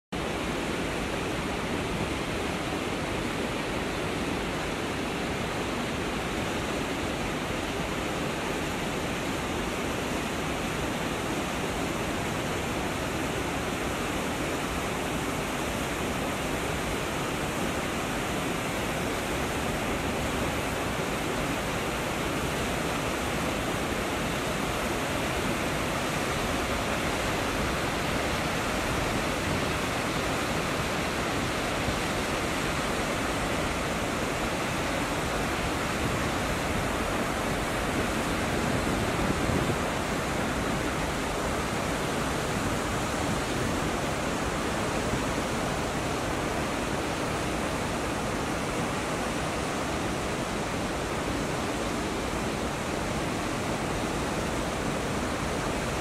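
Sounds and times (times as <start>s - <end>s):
water cascading over rocks: 0.2s - 56.0s.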